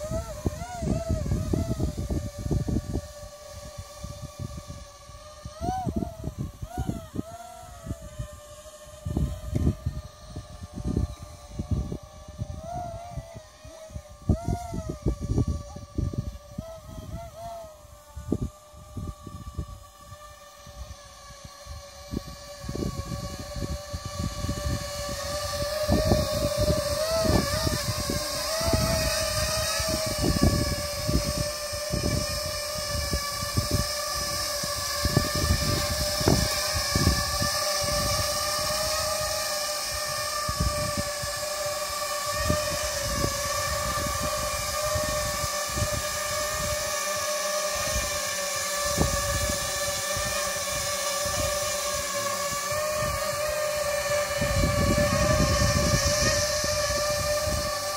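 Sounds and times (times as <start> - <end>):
drone motors whining: 0.0 - 57.9
wind buffeting microphone: 0.0 - 57.9.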